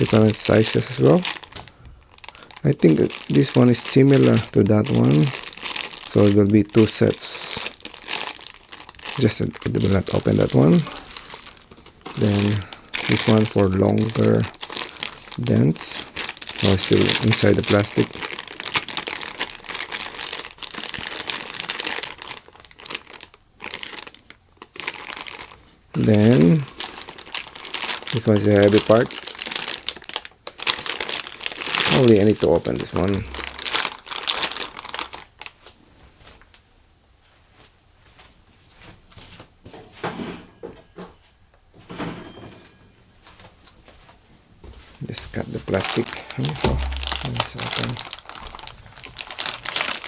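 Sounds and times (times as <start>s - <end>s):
plastic bag crinkling: 0.0s - 36.5s, 45.0s - 50.0s
plastic packaging rustling: 0.0s - 36.6s, 43.2s - 50.0s.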